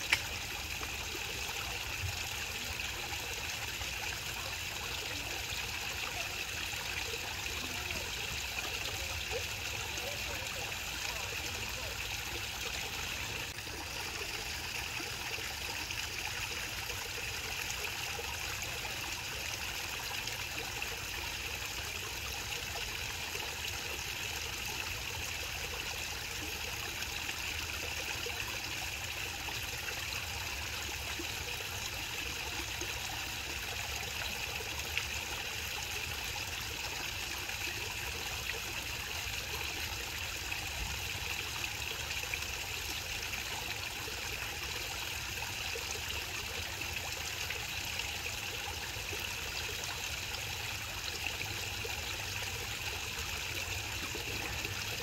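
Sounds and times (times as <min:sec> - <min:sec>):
water trickling into pond: 0:00.0 - 0:55.0.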